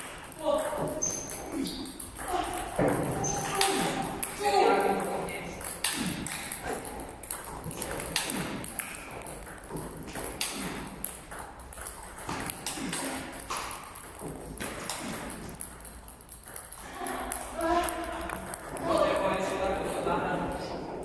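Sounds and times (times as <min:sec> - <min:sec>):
balls bouncing on table: 0:00.0 - 0:21.0
paddles striking table tennis balls: 0:00.0 - 0:21.0.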